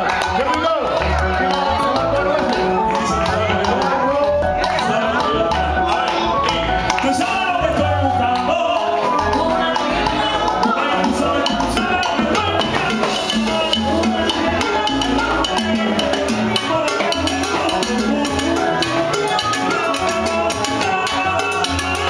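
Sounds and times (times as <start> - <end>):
congas and timbales: 0.0 - 22.0
salsa band playing: 0.0 - 22.0.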